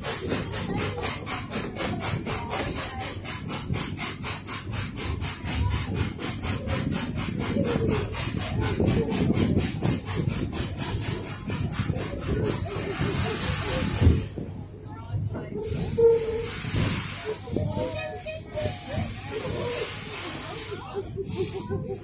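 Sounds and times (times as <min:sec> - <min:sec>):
steam locomotive chuffing: 0:00.0 - 0:22.0
train rumbling on rails: 0:00.0 - 0:22.0.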